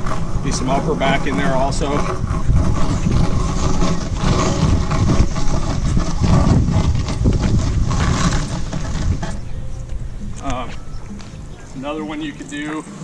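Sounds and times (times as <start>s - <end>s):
sled scraping over ground: 0.0s - 13.0s.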